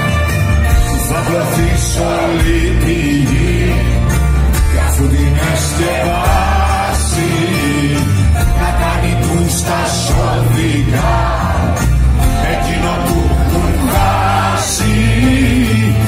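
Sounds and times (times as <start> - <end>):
acoustic guitar: 0.0 - 16.0
drum kit: 0.0 - 16.0.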